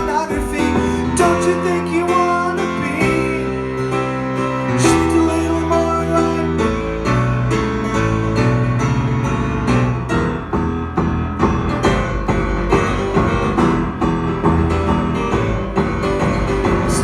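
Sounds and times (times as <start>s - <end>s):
piano playing rhythmic chords: 0.0s - 17.0s.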